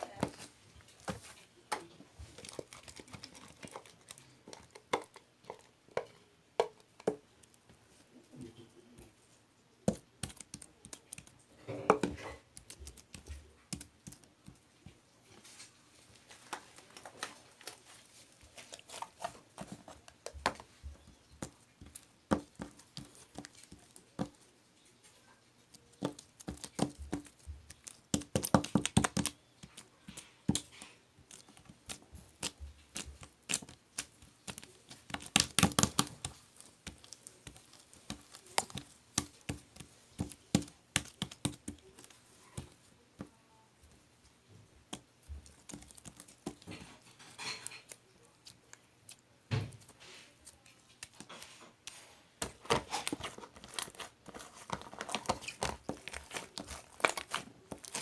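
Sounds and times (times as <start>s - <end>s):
crinkling: 0.0s - 9.2s, 9.8s - 58.0s
small objects tapping and clicking: 1.7s - 7.6s, 9.8s - 15.0s, 18.6s - 24.4s, 25.0s - 43.4s, 44.9s - 58.0s.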